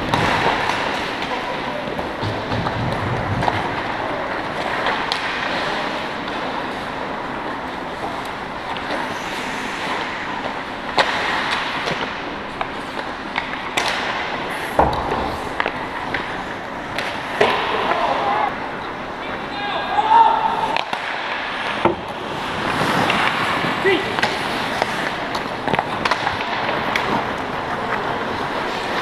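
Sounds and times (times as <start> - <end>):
skates scraping on ice: 0.0 - 19.1, 20.5 - 29.0
hockey sticks and puck clacking: 0.0 - 19.2, 19.9 - 29.0.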